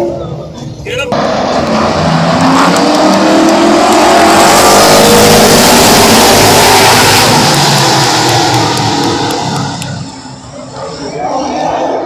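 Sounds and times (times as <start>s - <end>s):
stock cars racing past: 1.1s - 12.0s.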